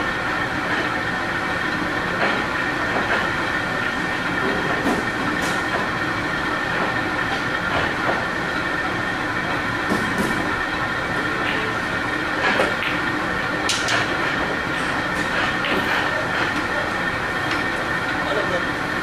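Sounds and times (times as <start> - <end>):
constant room hum: 0.0 - 19.0.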